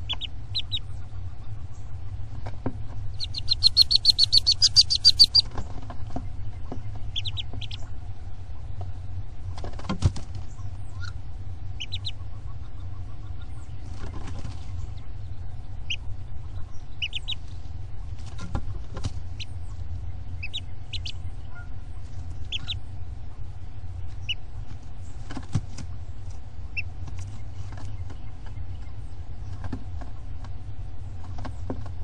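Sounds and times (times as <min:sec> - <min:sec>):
ducklings peeping: 0:00.0 - 0:32.0
low rumble: 0:00.0 - 0:32.0.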